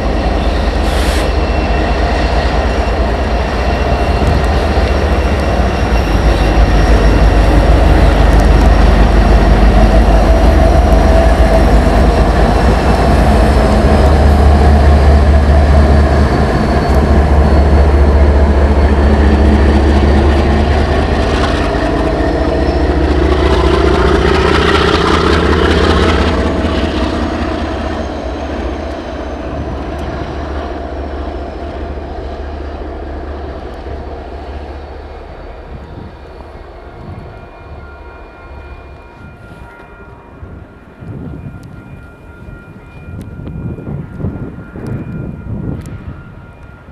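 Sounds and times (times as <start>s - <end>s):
diesel locomotive engines rumbling: 0.0s - 46.9s
locomotive whine: 0.0s - 46.9s.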